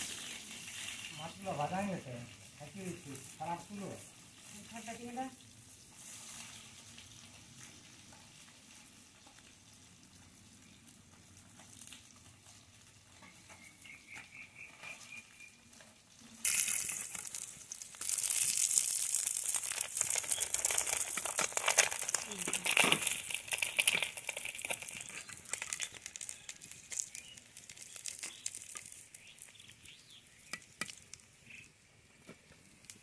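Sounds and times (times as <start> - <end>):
fish frying in hot oil: 0.0 - 33.0.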